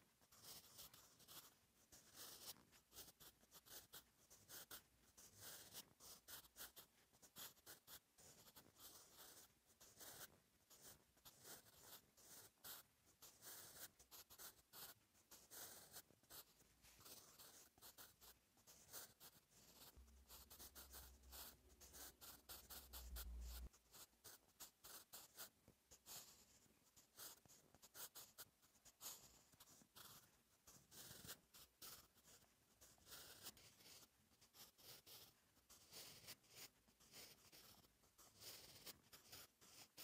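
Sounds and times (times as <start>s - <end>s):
pencil scratching on paper: 0.0s - 40.0s.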